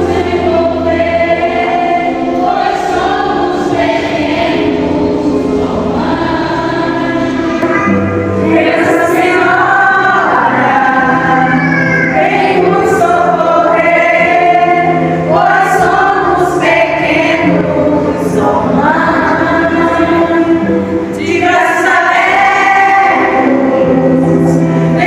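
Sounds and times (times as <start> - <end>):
choir singing a hymn: 0.0 - 25.0
instrumental backing: 0.0 - 25.0.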